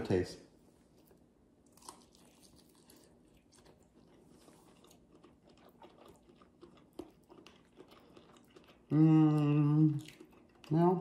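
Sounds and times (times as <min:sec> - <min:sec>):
faint chewing: 0:00.9 - 0:11.0.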